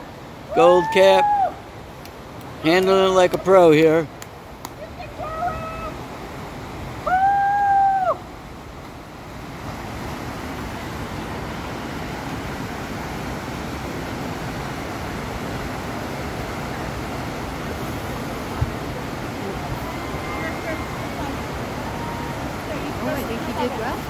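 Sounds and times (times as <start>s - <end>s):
river rapids rushing: 0.0s - 24.0s.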